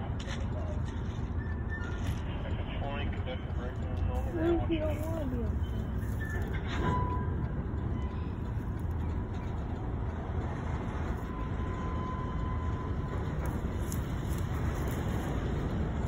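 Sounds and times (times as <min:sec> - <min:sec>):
train cars rumbling: 0:00.0 - 0:16.0.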